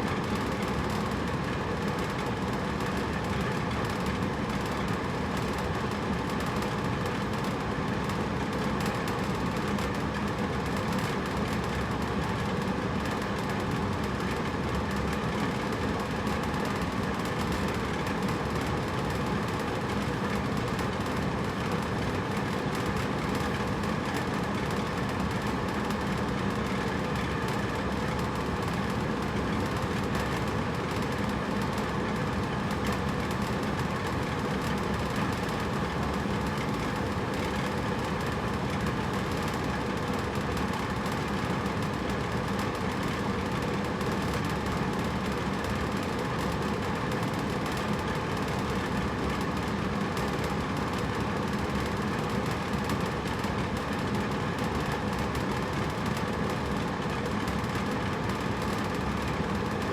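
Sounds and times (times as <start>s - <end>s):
air conditioner humming: 0.0s - 59.9s.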